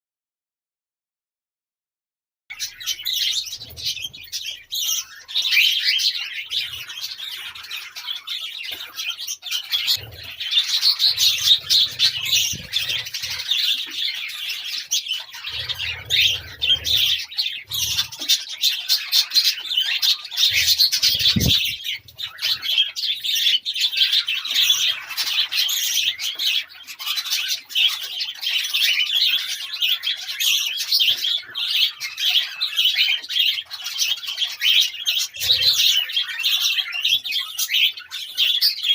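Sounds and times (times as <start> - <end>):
budgerigars chirping: 2.5 - 38.9.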